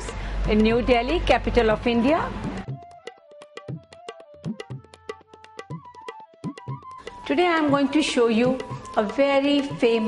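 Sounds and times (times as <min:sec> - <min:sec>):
tabla rapid strokes: 0:00.0 - 0:10.0
held melody line: 0:00.5 - 0:10.0.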